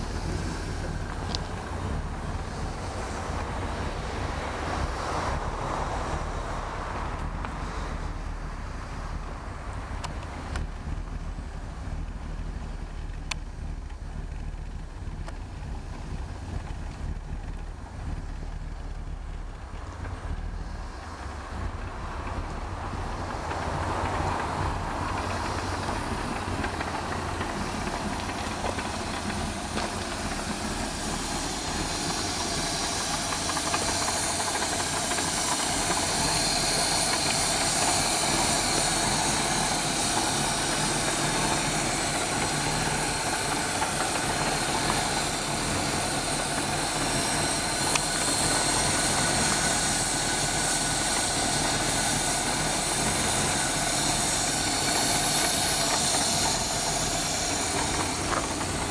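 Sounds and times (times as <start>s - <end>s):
car engine idling: 0.0s - 58.9s
steady hiss: 0.0s - 58.9s.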